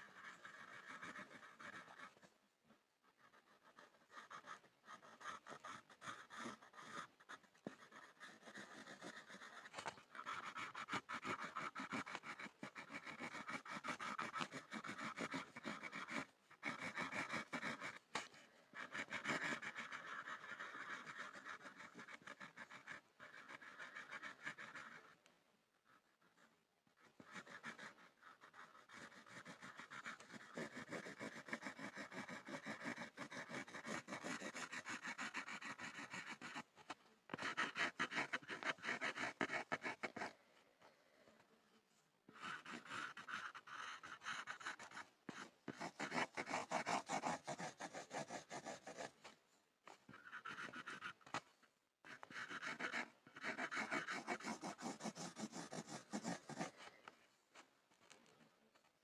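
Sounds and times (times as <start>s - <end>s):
pencil scribbling on a board: 0.0s - 40.4s, 41.4s - 59.0s.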